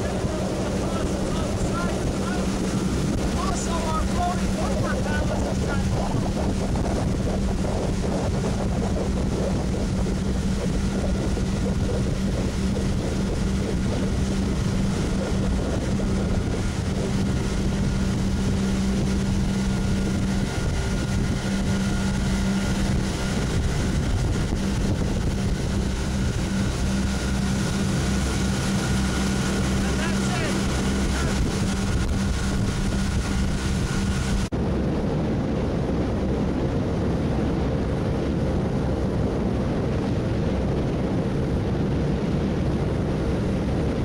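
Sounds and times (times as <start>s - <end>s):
two-stroke boat engine running: 0.0s - 44.0s
wind buffeting microphone: 0.0s - 44.0s.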